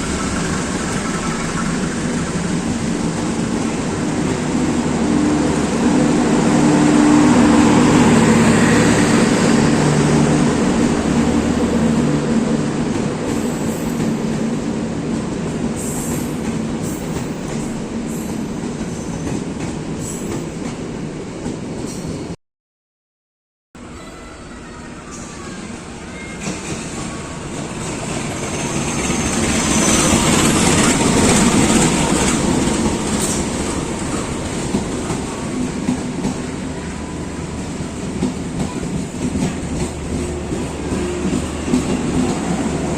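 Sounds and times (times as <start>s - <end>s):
train passing: 0.0s - 22.4s, 23.8s - 42.9s.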